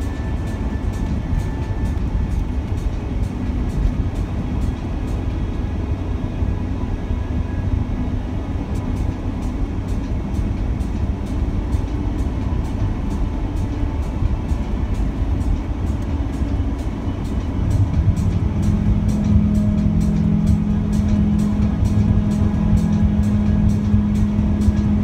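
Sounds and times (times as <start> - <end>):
music with regular beat: 0.0 - 5.6, 8.9 - 25.0
car road and engine rumble: 0.0 - 25.0.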